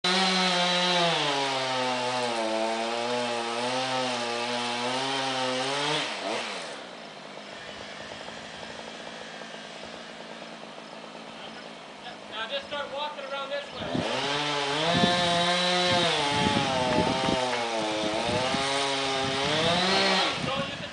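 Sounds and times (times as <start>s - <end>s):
chainsaw cutting tree: 0.0s - 12.4s, 13.8s - 20.9s.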